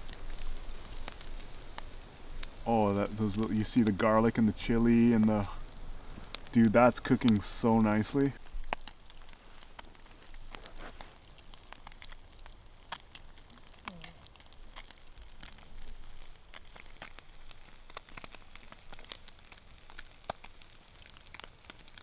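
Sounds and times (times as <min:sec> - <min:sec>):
fire crackling and popping: 0:00.0 - 0:22.0
fish sizzling over coals: 0:00.0 - 0:22.0.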